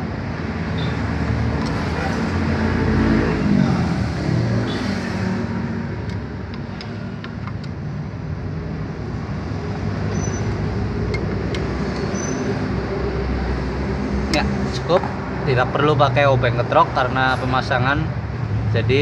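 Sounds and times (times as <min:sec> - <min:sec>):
motor vehicles rumbling: 0:00.0 - 0:19.0.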